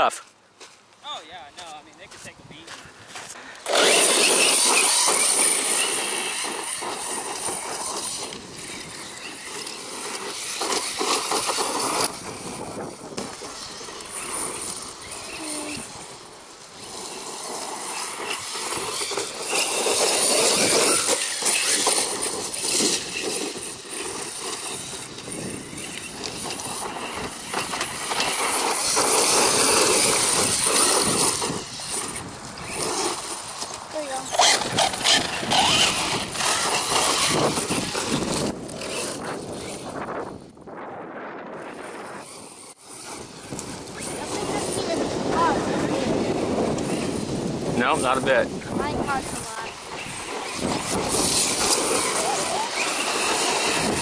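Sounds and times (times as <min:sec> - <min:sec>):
tyres on gravel: 0:00.0 - 0:40.5, 0:41.5 - 0:54.0
electric motor whining: 0:03.6 - 0:40.3, 0:41.6 - 0:54.0.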